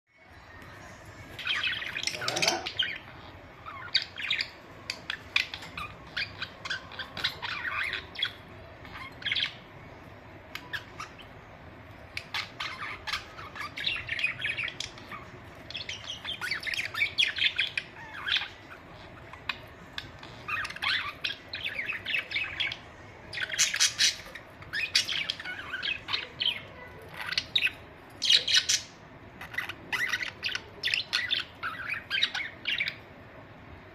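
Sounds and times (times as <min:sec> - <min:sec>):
budgerigars chirping: 0:01.4 - 0:09.7, 0:12.1 - 0:33.0.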